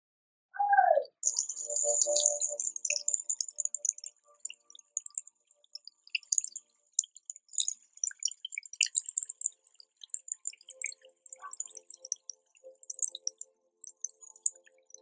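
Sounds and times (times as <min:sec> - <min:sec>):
high-pitched drip-like plinks: 0:01.2 - 0:15.0.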